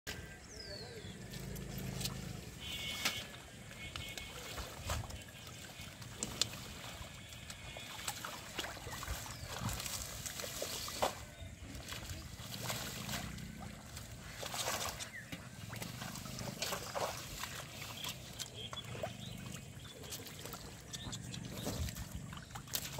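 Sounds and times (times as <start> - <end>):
splashing of shallow muddy water: 1.2 - 22.9.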